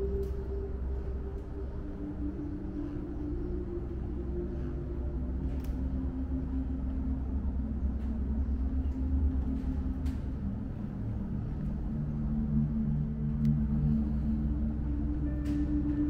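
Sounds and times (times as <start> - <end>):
deep steady rumble: 0.0 - 16.0
slow ambient music: 0.0 - 16.0.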